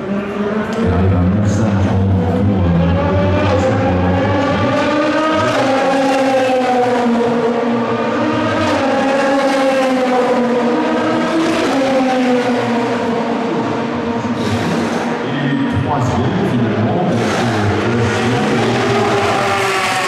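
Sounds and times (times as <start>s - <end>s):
race car engines running hard: 0.0s - 20.0s.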